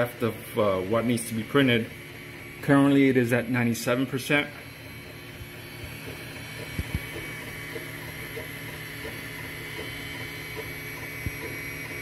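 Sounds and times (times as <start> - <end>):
printer fans humming: 0.0 - 12.0
stepper motors buzzing: 0.0 - 12.0.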